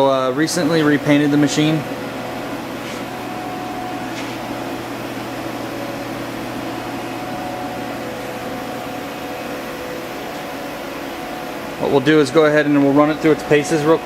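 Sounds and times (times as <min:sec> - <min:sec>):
mechanical hum of fans: 0:00.0 - 0:14.0.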